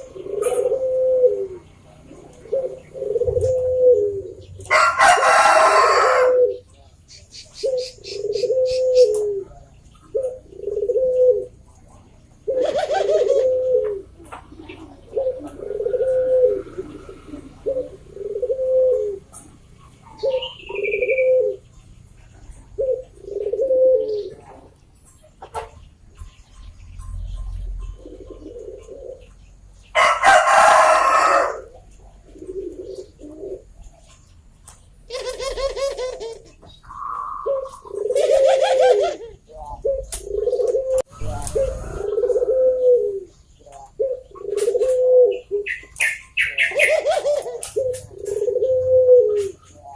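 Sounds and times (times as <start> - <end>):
dove cooing: 0.0 - 34.3, 34.9 - 49.9
noisy bird call: 0.0 - 49.9.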